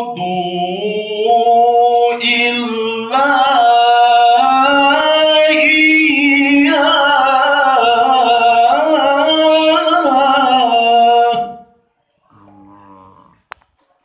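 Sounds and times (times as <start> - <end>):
man reciting melodically: 0.0 - 11.6.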